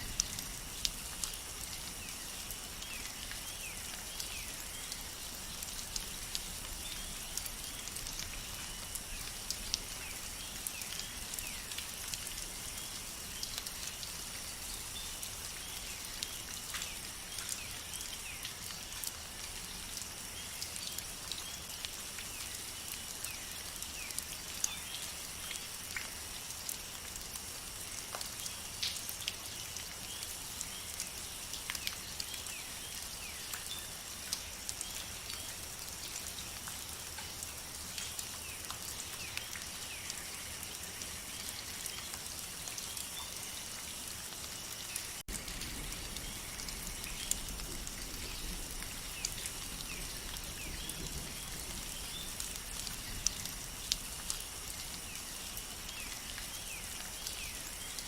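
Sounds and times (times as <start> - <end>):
rain falling in a forest: 0.0 - 58.0
raindrops ticking: 0.0 - 58.0.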